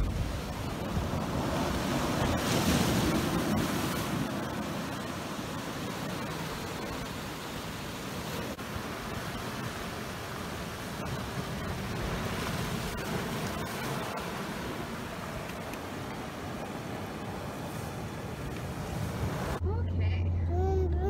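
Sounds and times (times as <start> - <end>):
surf breaking over rocks: 0.0 - 19.6.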